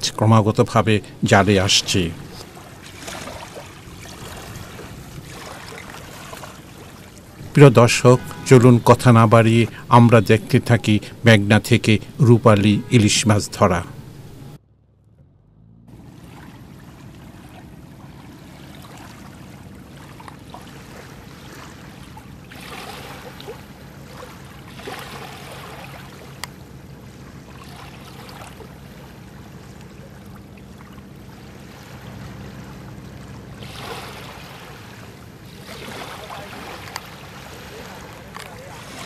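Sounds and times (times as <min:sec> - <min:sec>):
water splashing against boat: 0:00.0 - 0:14.6, 0:15.9 - 0:39.0
boat engine running: 0:00.0 - 0:39.0.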